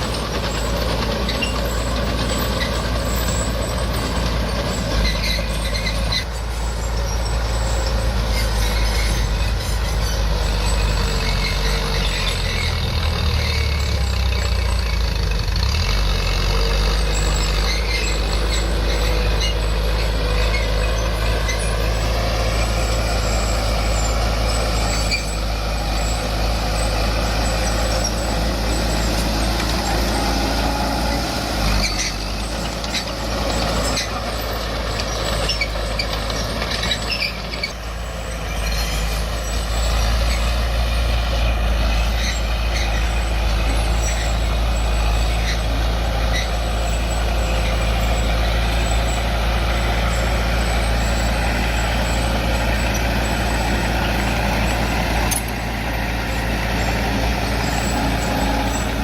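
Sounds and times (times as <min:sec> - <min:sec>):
diesel machinery running: 0:00.0 - 0:59.0.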